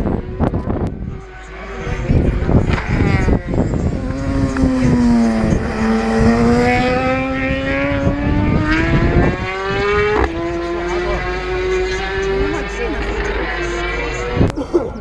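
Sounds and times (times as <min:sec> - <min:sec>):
wind buffeting microphone: 0:00.0 - 0:12.6
motorcycle engine accelerating: 0:00.0 - 0:14.6.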